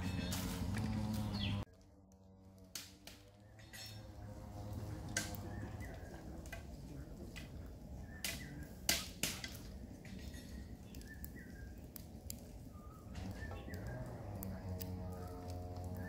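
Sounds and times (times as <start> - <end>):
faint birds chirping: 0.0 - 1.8, 3.2 - 16.0.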